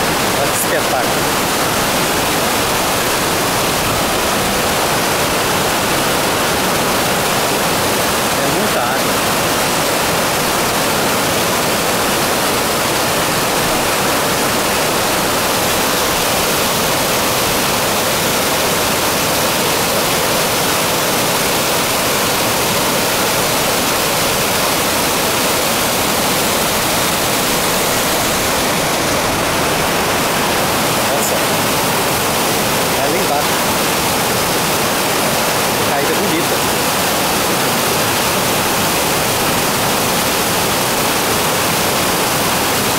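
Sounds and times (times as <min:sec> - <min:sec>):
waterfall rushing over rock: 0:00.0 - 0:42.9.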